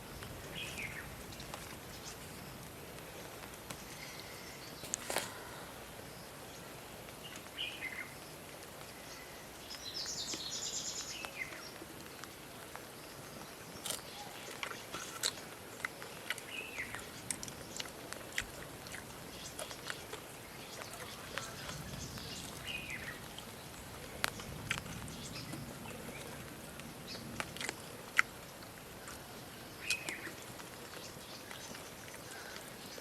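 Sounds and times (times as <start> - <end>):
birds chirping: 0.1 - 12.3, 12.9 - 33.0.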